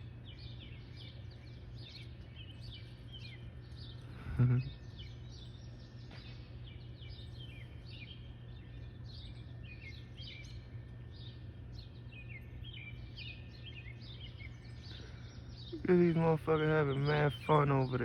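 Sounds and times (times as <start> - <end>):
small birds chirping: 0.0 - 18.0
steady low hum: 0.0 - 18.0.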